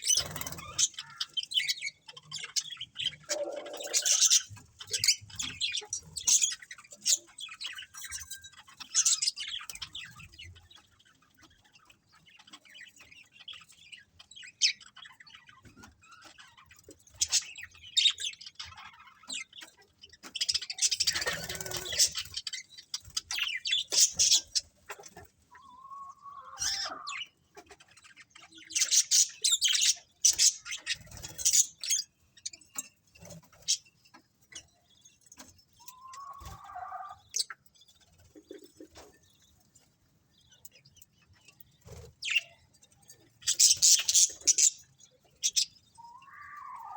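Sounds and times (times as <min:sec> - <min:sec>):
budgerigars chirping and chattering: 0:00.0 - 0:46.9.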